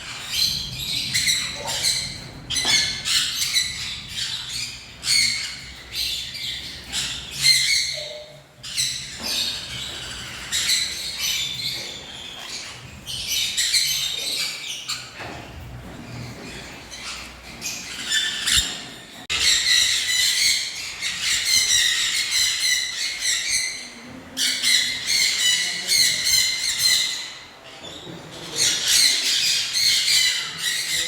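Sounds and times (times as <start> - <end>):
cage birds chattering and squawking: 0.0 - 31.0.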